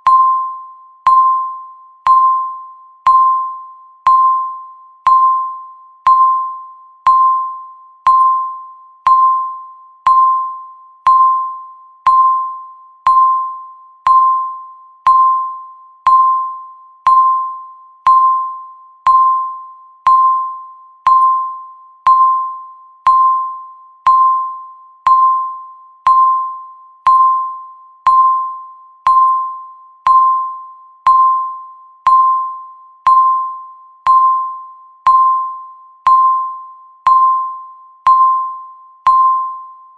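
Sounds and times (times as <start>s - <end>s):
timer ding ticking: 0.0s - 39.8s.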